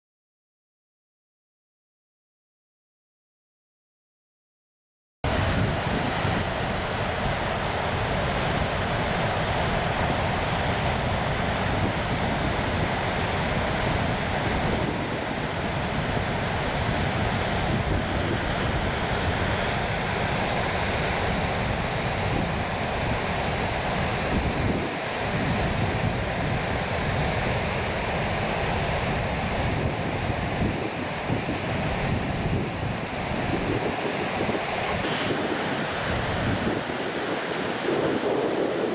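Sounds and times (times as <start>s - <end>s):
water rushing through spillway: 5.3s - 38.9s.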